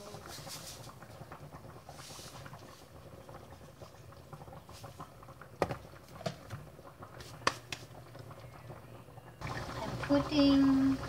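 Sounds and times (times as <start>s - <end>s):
sauce simmering with bubbling pops: 0.0s - 11.0s.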